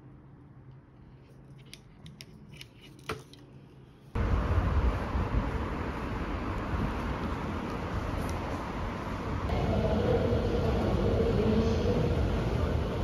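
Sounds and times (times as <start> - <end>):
street noise with low rumble: 0.0 - 13.0.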